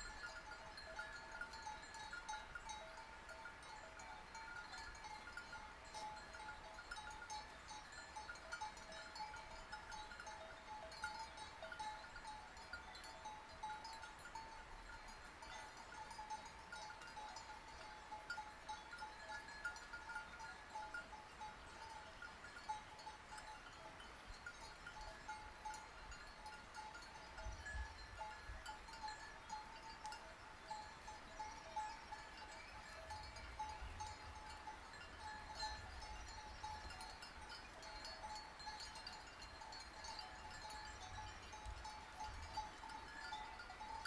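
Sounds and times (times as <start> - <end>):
sheep bells clinking: 0.0 - 44.0.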